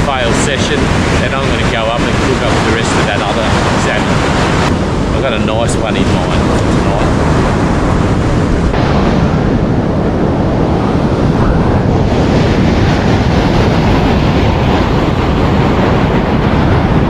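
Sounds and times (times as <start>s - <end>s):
waves breaking on a beach: 0.0s - 17.0s
wind buffeting the microphone: 0.0s - 17.0s.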